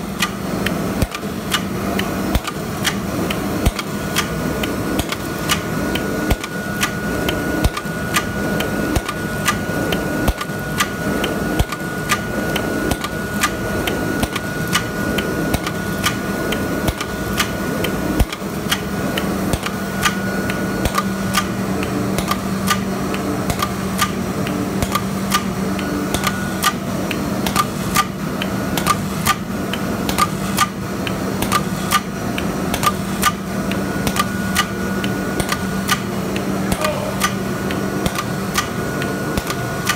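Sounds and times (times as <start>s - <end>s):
steady machine noise: 0.0s - 39.9s.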